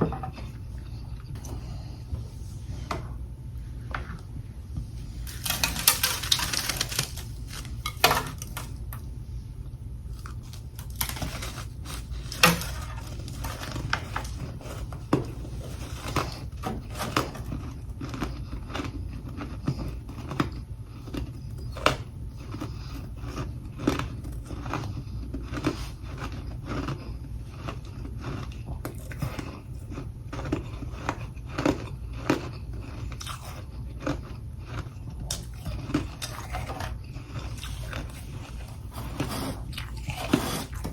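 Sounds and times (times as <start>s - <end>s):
steady low hum: 0.0s - 40.9s
chewing crunchy ice: 5.1s - 8.8s, 10.1s - 40.9s.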